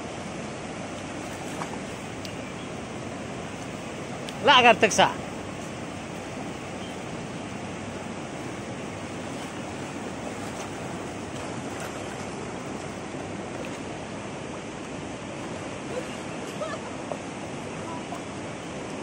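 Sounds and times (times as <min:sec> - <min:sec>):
river rushing over rapids: 0:00.0 - 0:19.0.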